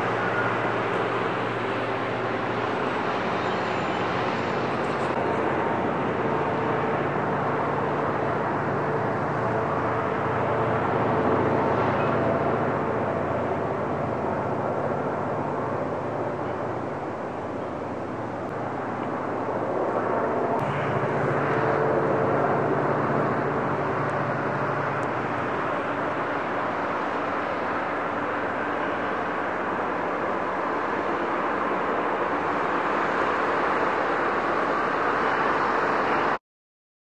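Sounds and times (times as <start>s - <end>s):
diesel locomotive engine drone: 0.0s - 36.4s.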